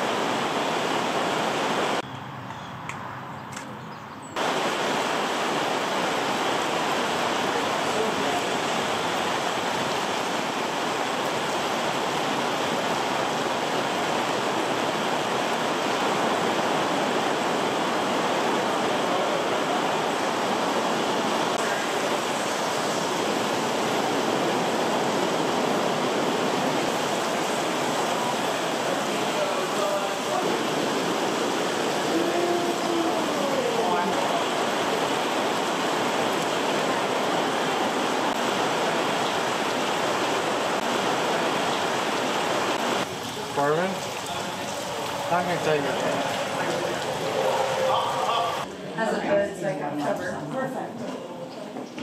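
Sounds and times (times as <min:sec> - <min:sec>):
steady rushing noise: 0:04.4 - 0:48.7.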